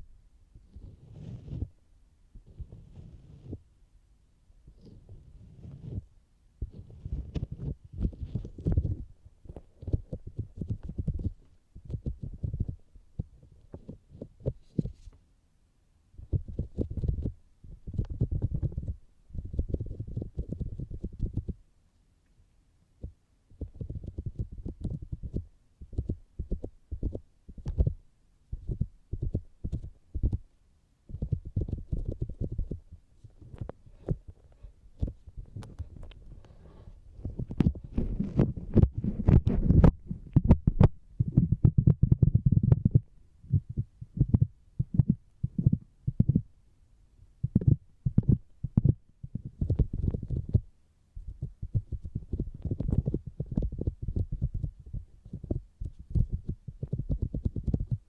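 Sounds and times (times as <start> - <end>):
fingertips tapping on microphone: 4.7 - 15.2, 16.2 - 21.6, 23.0 - 30.5, 31.1 - 46.5, 47.4 - 58.0.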